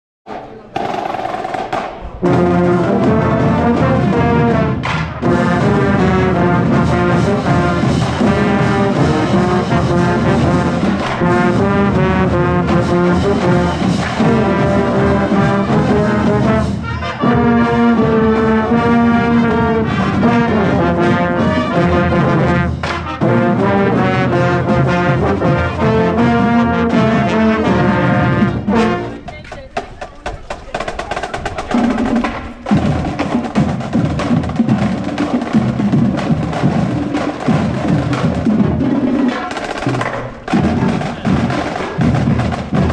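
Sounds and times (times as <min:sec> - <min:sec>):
drums: 0:00.3 - 0:42.9
brass section playing: 0:00.8 - 0:29.5, 0:30.8 - 0:42.9.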